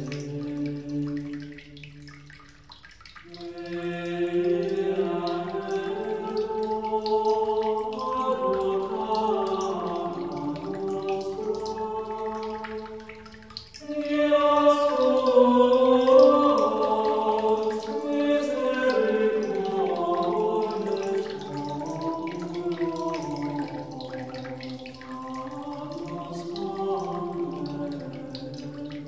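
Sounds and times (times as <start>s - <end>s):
chant-like vocal music: 0.0s - 2.1s, 3.3s - 29.0s
water dripping: 0.0s - 29.0s.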